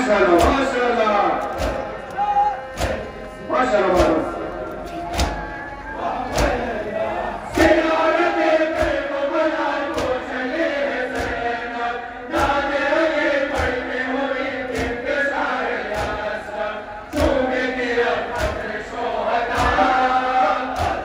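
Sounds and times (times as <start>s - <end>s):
group chanting a melody: 0.0s - 21.0s
rhythmic thumps: 0.0s - 21.0s.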